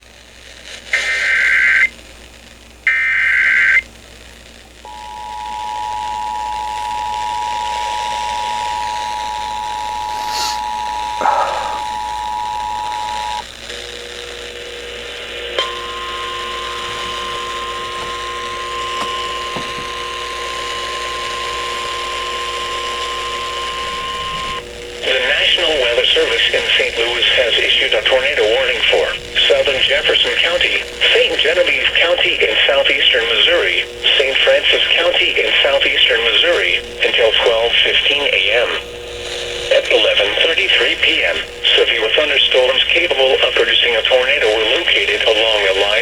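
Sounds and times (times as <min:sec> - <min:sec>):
droning tones: 0:04.2 - 0:46.0.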